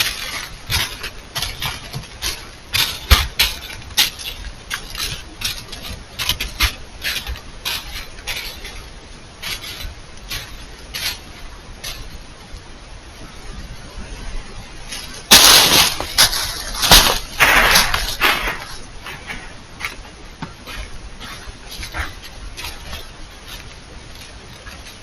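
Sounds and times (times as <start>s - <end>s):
deer scuffing noises: 0.0s - 12.6s, 14.4s - 25.0s.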